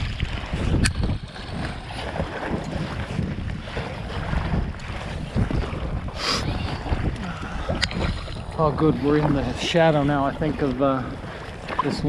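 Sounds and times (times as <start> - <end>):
water splashing around raft: 0.0 - 12.0
wind buffeting microphone: 0.0 - 12.0.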